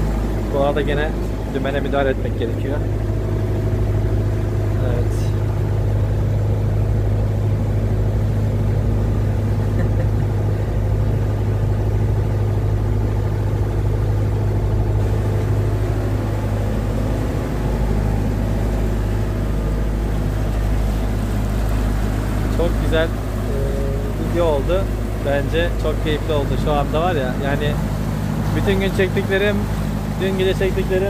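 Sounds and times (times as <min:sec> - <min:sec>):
motor boat engine drone: 0:00.0 - 0:31.0.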